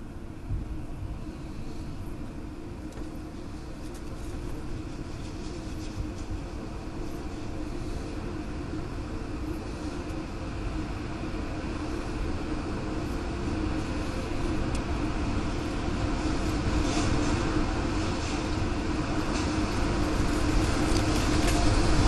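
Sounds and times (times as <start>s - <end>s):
tornado wind roaring: 0.0s - 22.0s.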